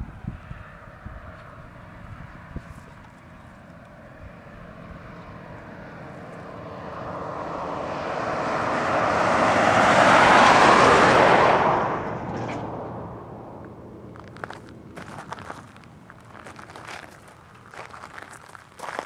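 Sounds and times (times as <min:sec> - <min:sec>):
vehicle passing on road: 0:00.0 - 0:19.0.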